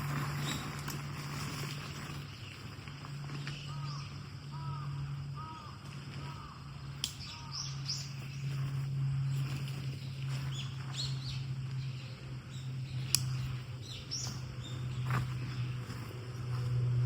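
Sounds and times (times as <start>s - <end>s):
small birds chirping: 0.0s - 16.8s
steady low hum: 0.0s - 17.0s.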